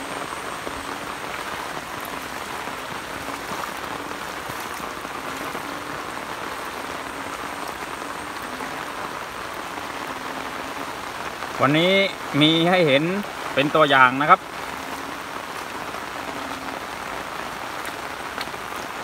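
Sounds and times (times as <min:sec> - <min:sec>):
heavy rain on water and grass: 0:00.0 - 0:19.0.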